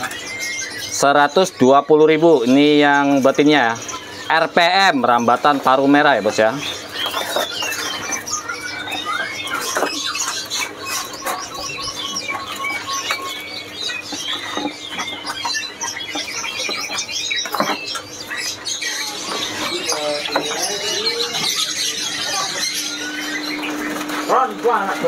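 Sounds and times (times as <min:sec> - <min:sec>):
songbirds chirping and calling: 0:00.0 - 0:25.0.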